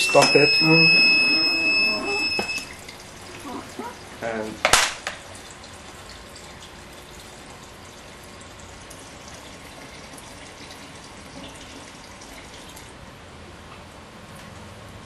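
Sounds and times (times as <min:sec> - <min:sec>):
liquid trickling and dripping: 0:00.0 - 0:13.0.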